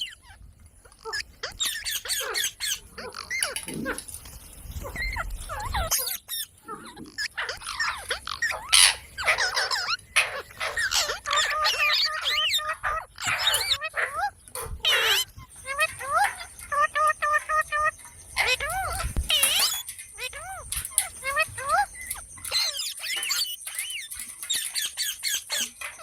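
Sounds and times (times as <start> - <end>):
parrot chattering and squawking: 0.0 - 26.0.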